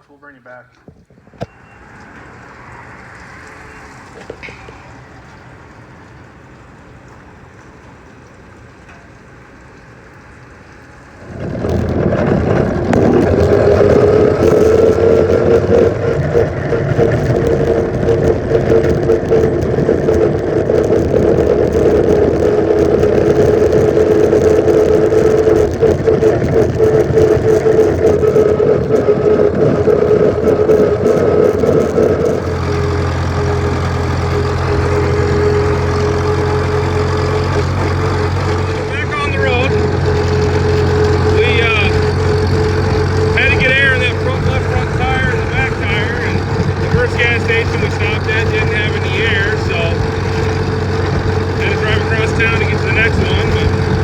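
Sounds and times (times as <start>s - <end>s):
tractor engine droning: 1.2s - 54.0s.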